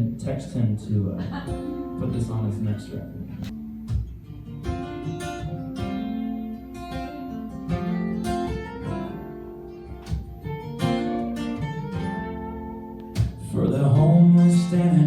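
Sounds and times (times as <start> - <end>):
acoustic guitar strumming chords: 1.2 - 15.0.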